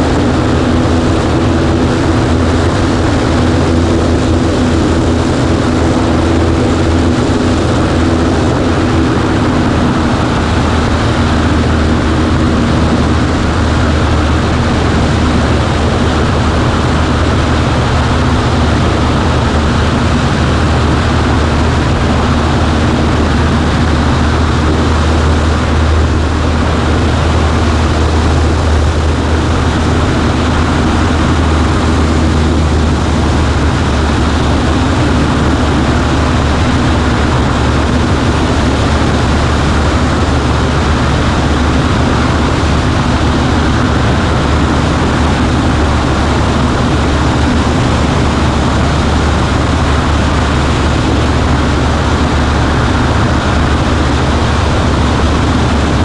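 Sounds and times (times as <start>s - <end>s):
airplane propeller engine humming: 0.0s - 56.0s.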